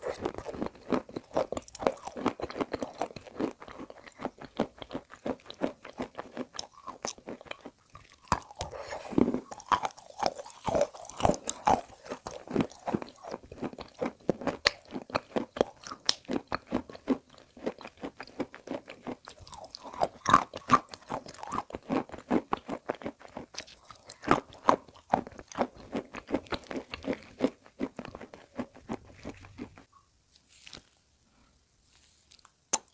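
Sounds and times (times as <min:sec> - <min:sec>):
chalk crunching and chewing: 0:00.0 - 0:29.9.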